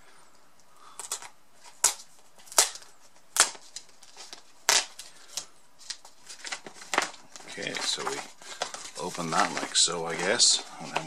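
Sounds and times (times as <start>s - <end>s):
wrapping peeled and torn: 0.8s - 11.0s.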